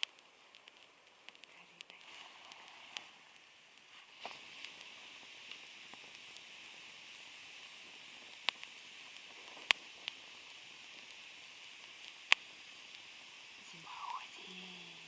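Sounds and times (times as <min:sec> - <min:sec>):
bonfire hissing: 0:00.0 - 0:15.0
fire popping: 0:00.0 - 0:15.0.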